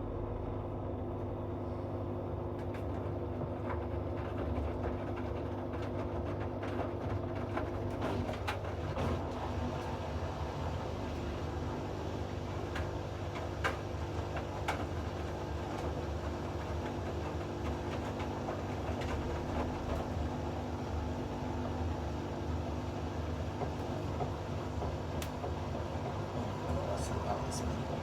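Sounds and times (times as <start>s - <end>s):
washing machine running: 0.0s - 28.0s.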